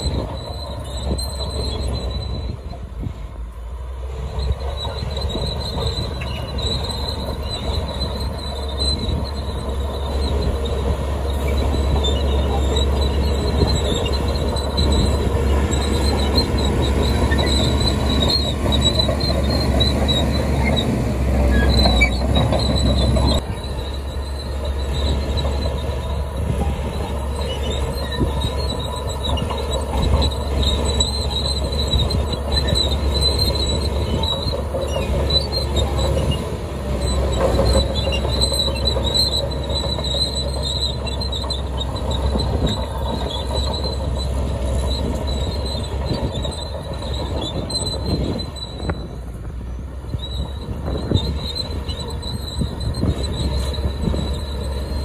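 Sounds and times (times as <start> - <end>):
diesel engine under load: 0.0 - 55.0
steel tracks squealing and clanking: 0.0 - 55.0.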